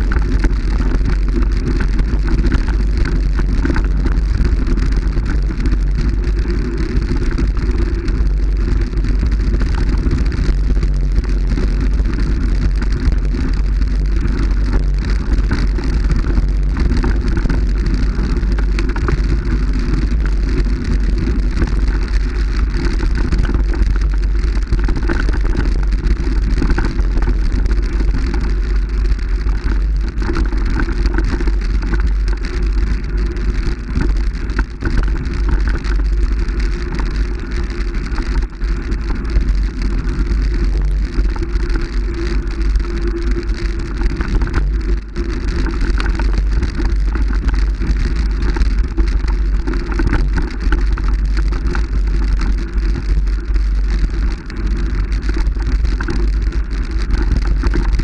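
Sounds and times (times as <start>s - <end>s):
moving vehicle rumbling: 0.0s - 58.0s.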